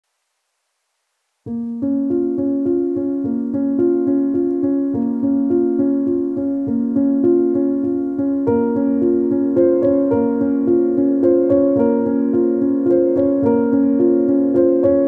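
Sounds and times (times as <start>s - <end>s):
keyboard repeating pattern: 2.1s - 15.0s.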